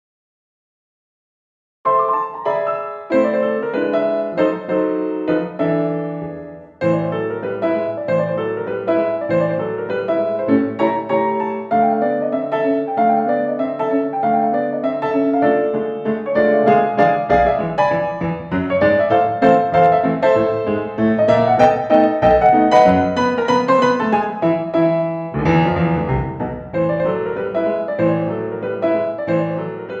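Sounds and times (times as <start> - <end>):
piano music: 1.9 - 30.0.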